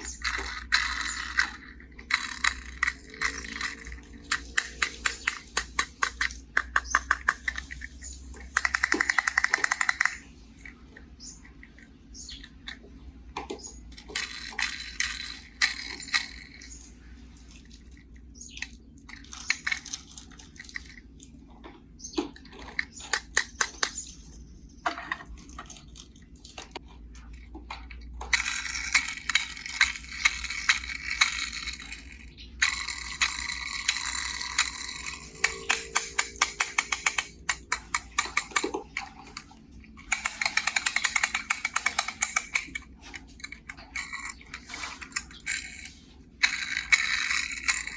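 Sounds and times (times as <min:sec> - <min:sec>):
toy cars rattling and scraping: 0:00.0 - 0:47.9.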